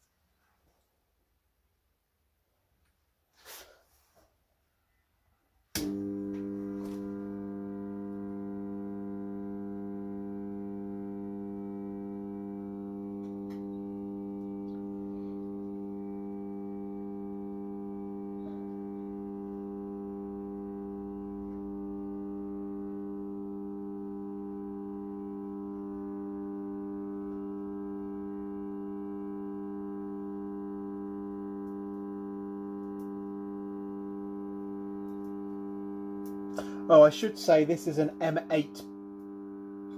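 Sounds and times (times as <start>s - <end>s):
transformer humming: 5.8s - 39.9s.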